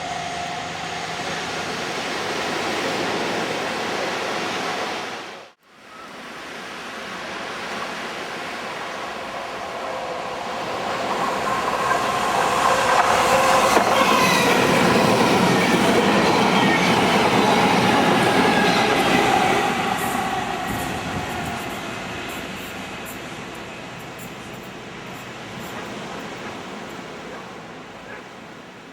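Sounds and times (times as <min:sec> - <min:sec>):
held tones over train rumble: 0:00.0 - 0:04.8, 0:07.2 - 0:28.0
train passing: 0:00.0 - 0:28.9.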